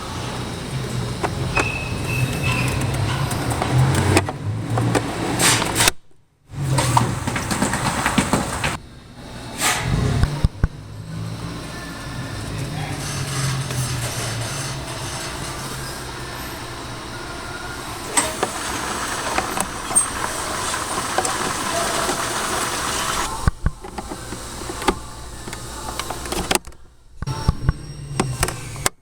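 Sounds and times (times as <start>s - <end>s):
vehicle running noise: 0.0s - 5.9s, 6.5s - 28.9s.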